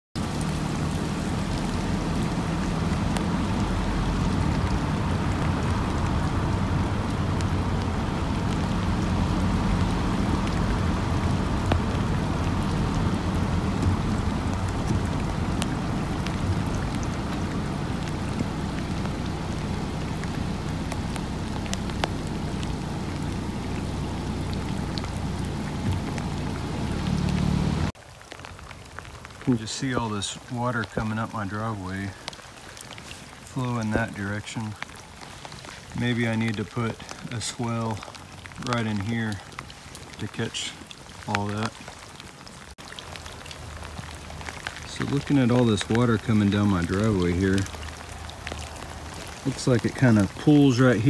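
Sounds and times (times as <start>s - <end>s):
rain on waterlogged ground: 0.0s - 51.0s
drops ticking: 0.2s - 51.0s
running water runoff: 0.2s - 51.0s.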